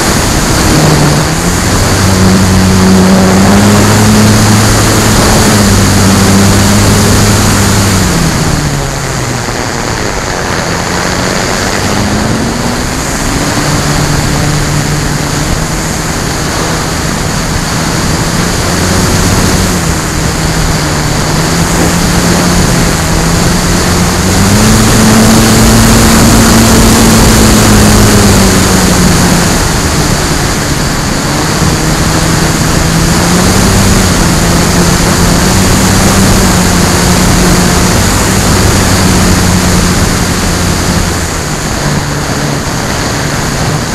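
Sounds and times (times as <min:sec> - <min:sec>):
electric motor and propeller hum: 0:00.0 - 0:43.9
wind rush on microphone: 0:00.0 - 0:43.9.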